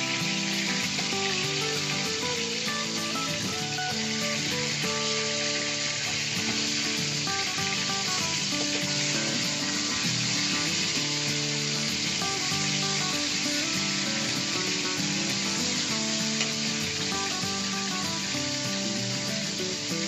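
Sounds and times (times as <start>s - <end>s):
background music: 0.0s - 20.0s
fish frying in hot oil: 0.0s - 20.0s.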